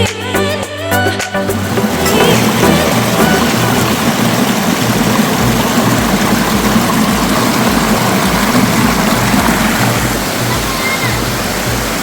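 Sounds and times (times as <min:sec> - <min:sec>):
background music beat: 0:00.0 - 0:12.0
waterfall rushing: 0:01.4 - 0:12.0.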